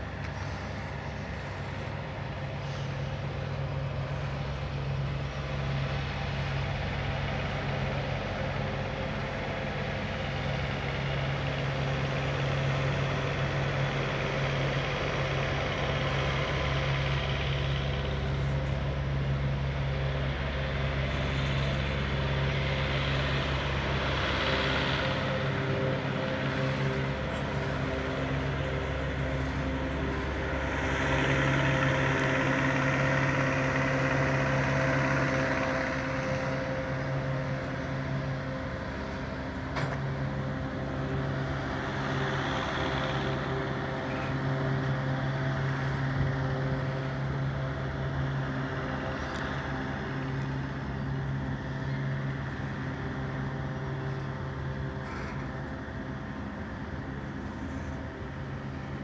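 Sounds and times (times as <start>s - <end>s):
constant hum: 0.0s - 59.0s
train wheels rumbling on rail: 0.0s - 59.0s.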